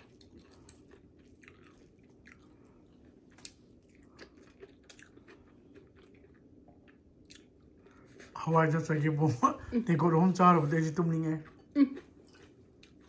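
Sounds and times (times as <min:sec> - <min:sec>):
person chewing: 0:00.0 - 0:08.4, 0:10.9 - 0:13.0
low room hum: 0:00.0 - 0:13.0.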